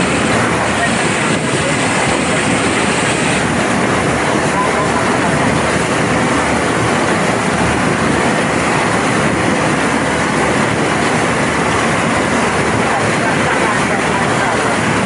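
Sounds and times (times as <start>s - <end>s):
boat engine running: 0.0s - 15.0s
rushing water and air: 0.0s - 15.0s.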